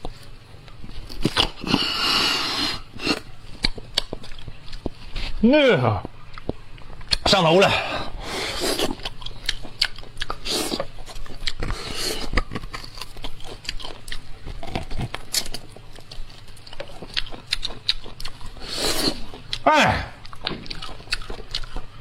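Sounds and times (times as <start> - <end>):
chewing and biting: 0.0 - 5.4, 8.4 - 19.6, 20.2 - 22.0.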